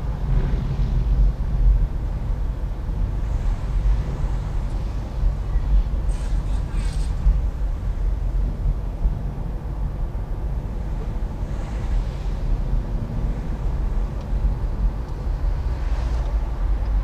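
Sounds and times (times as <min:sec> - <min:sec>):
car driving low rumble: 0:00.0 - 0:17.0.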